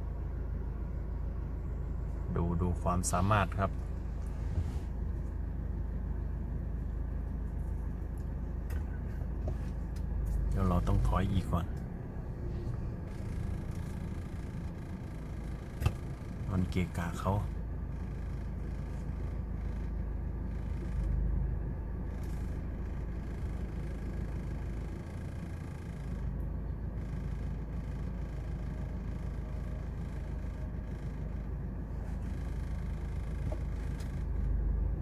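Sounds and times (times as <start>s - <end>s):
vehicle engines idling: 0.0s - 35.0s.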